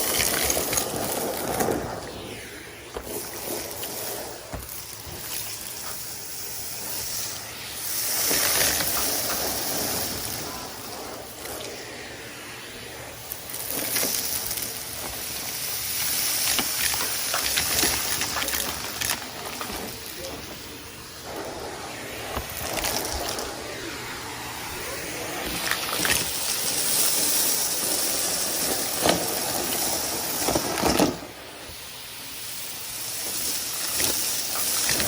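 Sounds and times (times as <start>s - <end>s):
debris crackling up a hose: 0.0s - 35.0s
vacuum cleaner running: 0.0s - 35.0s.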